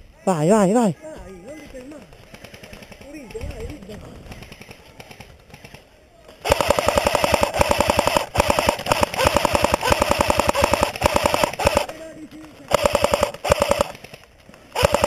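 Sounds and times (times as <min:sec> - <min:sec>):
airsoft rifle firing: 0:01.7 - 0:15.0.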